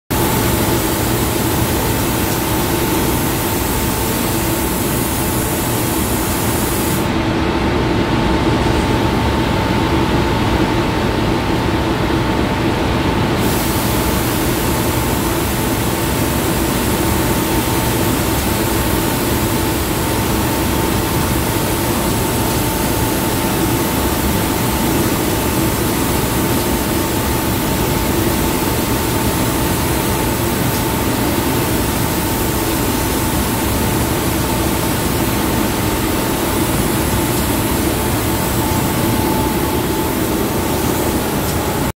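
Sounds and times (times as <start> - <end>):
steady two-tone hum: 0.1 - 41.9
spray gun hissing: 0.2 - 7.1, 13.4 - 41.9.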